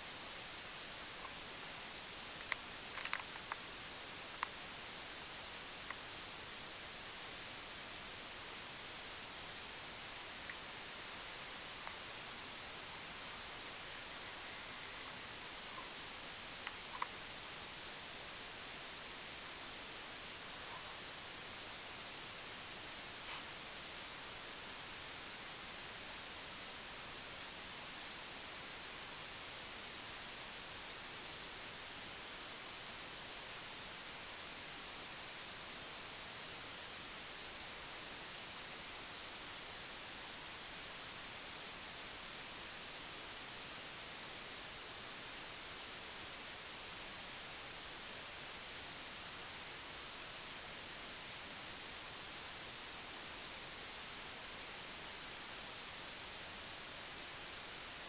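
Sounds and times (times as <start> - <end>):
steady static hiss: 0.0 - 58.0.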